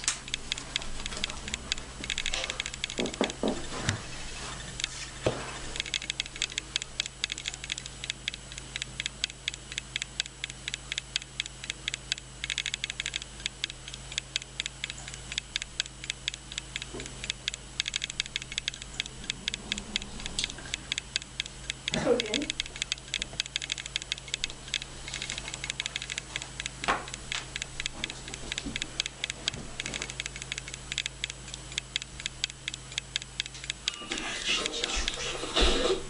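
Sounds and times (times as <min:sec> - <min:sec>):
rapid irregular ticking clicks: 0:00.0 - 0:03.4, 0:05.7 - 0:35.2
steady low hum: 0:00.0 - 0:36.0.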